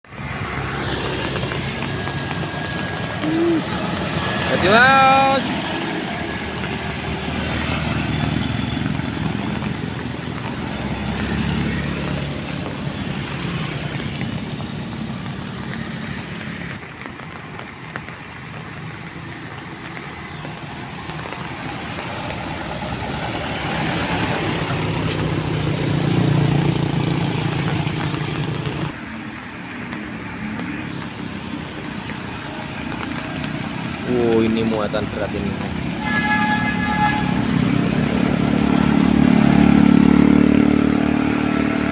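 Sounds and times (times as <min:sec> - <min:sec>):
traffic engines passing: 0:00.0 - 0:41.9.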